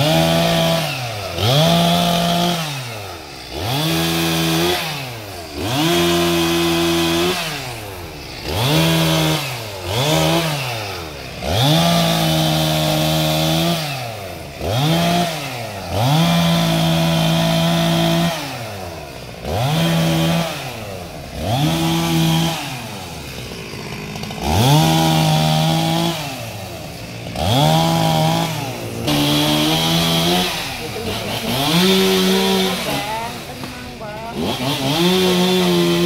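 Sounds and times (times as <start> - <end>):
chainsaw revving: 0.0 - 36.0.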